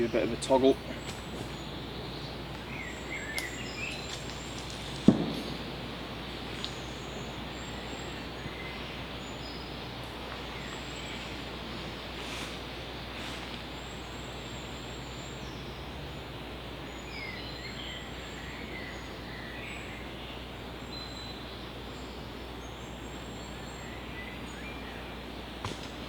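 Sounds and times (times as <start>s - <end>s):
background hiss: 0.0s - 26.0s
small birds chirping: 0.0s - 26.0s.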